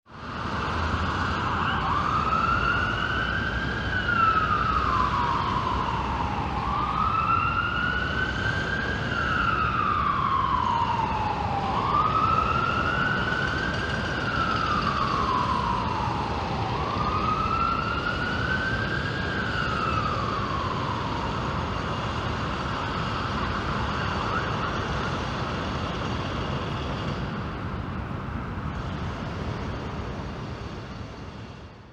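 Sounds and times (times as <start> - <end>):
city traffic hum: 0.1 - 31.9
emergency siren wailing: 0.2 - 27.7.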